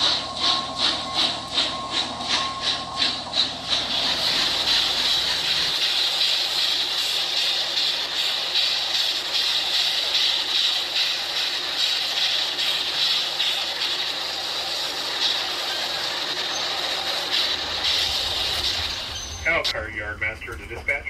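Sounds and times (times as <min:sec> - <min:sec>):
model train wheels hissing on rails: 0:00.0 - 0:19.7.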